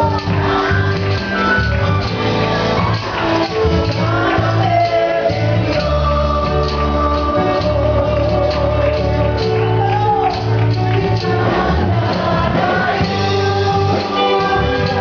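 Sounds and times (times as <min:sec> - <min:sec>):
person singing: 0:00.0 - 0:02.1, 0:02.8 - 0:15.0
band accompaniment with steady beat: 0:00.0 - 0:15.0.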